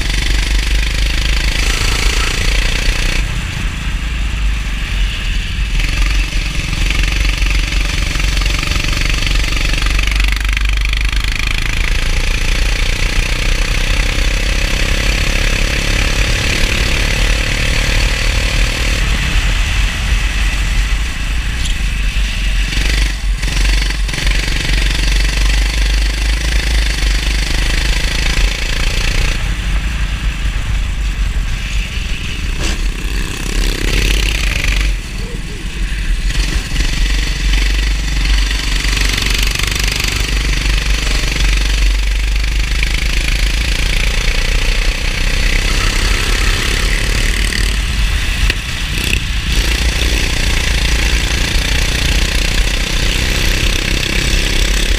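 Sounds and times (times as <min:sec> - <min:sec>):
go-kart engine running: 0:00.0 - 0:54.9.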